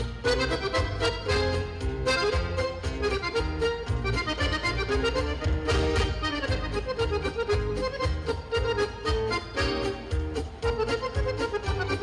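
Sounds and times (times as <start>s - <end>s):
accordion polka music: 0.0s - 12.0s.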